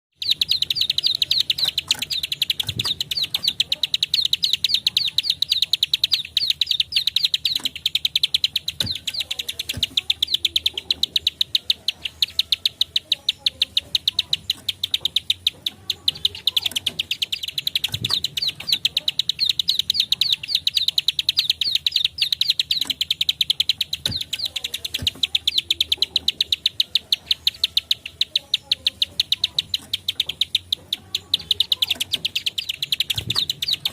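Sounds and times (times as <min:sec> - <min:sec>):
bird clicking song: 0:00.1 - 0:33.9.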